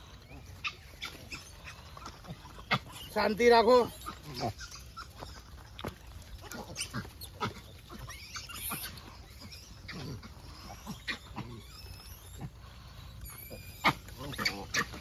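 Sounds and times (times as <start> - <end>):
monkeys calling: 0.0 - 15.0
monkeys scuffling: 0.0 - 15.0.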